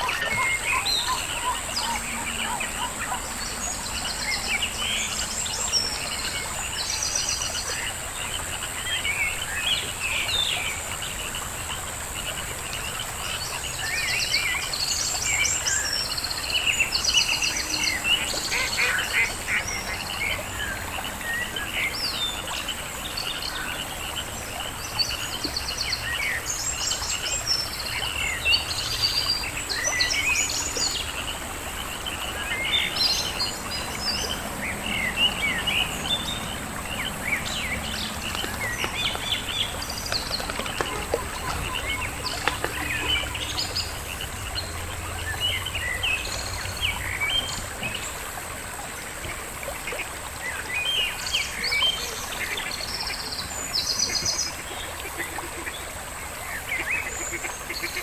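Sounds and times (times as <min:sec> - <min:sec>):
high insect drone: 0:00.0 - 0:49.3
songbirds chirping and trilling: 0:00.0 - 0:58.0.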